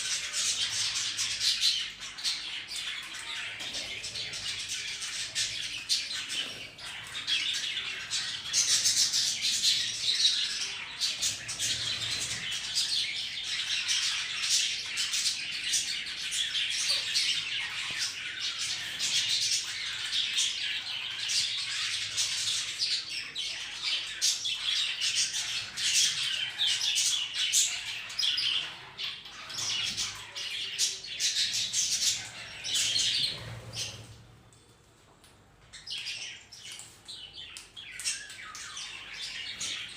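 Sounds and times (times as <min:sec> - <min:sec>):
budgerigars and parrot squawking: 0:00.0 - 0:34.2.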